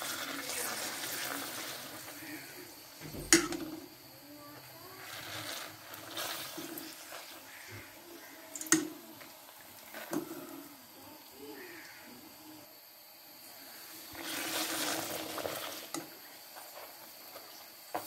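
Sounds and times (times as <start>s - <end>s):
bubbling hiss of deep-frying: 0.0s - 18.0s.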